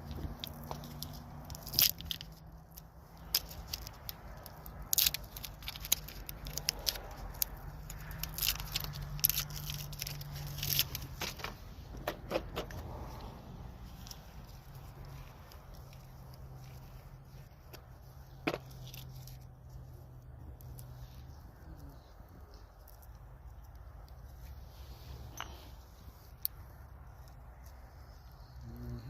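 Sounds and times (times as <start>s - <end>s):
hand tools clicking and scraping: 0.0s - 29.0s.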